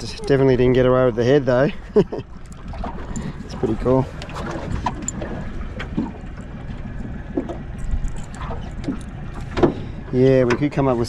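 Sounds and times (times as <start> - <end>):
outboard motor rumbling: 0.0 - 11.0
water against hull: 0.0 - 11.0.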